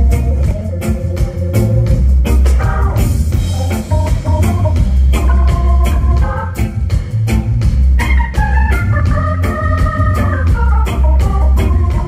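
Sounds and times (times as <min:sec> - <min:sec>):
heavy bass: 0:00.0 - 0:12.0
organ chords: 0:00.0 - 0:12.0
steady drum beat: 0:00.0 - 0:12.0.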